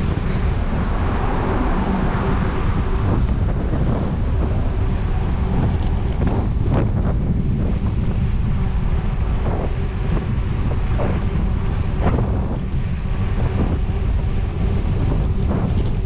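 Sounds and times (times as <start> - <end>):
wind rumbling on microphone: 0.0 - 16.0
bicycle rattles and knocks: 2.4 - 16.0.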